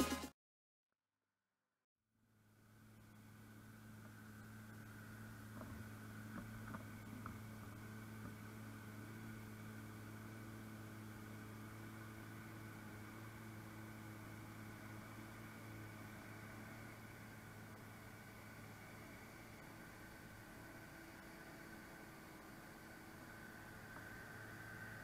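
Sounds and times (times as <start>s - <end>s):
distant farm machinery drone: 2.4s - 25.0s.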